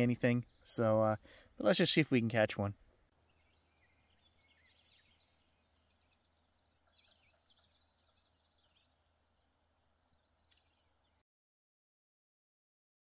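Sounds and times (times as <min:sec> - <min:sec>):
songbirds chirping: 0:00.0 - 0:11.2.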